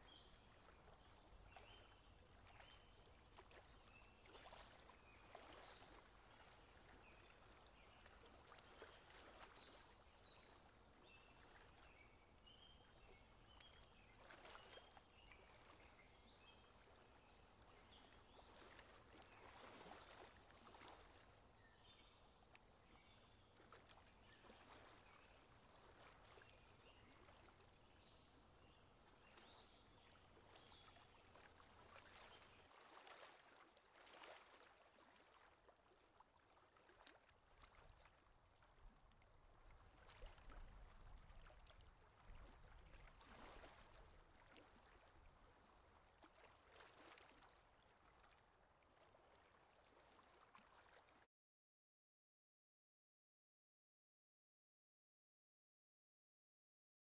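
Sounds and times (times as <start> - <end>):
faint river flowing: 0.0 - 51.3.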